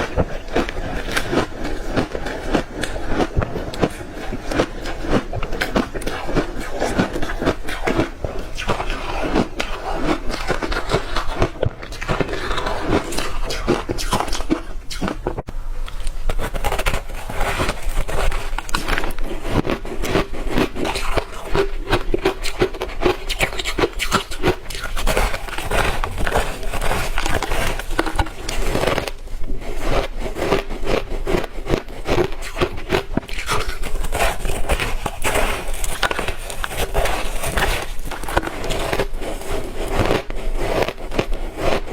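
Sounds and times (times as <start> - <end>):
ice crunching being chewed: 0.0 - 41.9.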